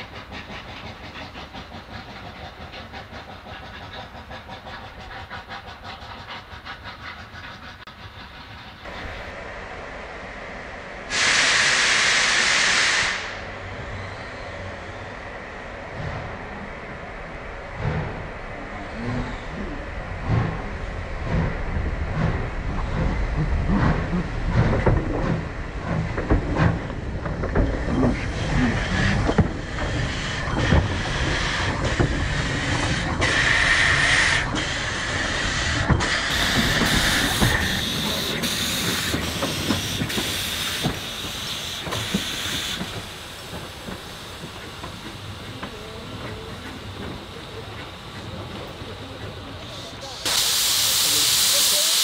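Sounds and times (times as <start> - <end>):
steam hissing: 0.0 - 9.4, 11.0 - 13.6, 17.5 - 52.0
steam locomotive exhaust chuffs: 0.0 - 9.7, 11.0 - 52.0.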